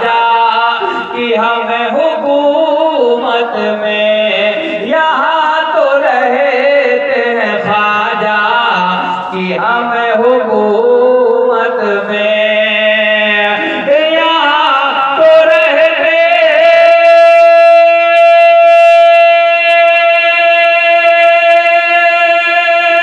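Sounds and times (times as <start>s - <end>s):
man singing wordless melody: 0.0s - 23.0s.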